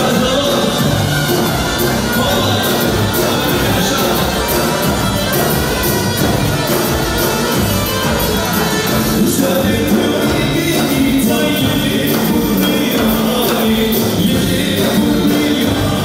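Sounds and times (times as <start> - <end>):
music with singing and beat: 0.0 - 16.0.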